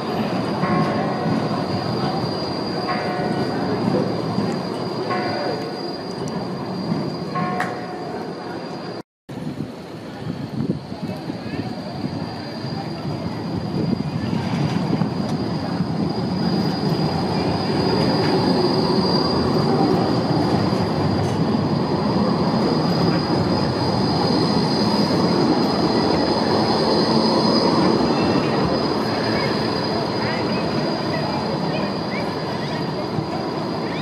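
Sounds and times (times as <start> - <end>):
tram running gear rumble: 0.0 - 34.0
tram wheels squealing: 0.0 - 34.0.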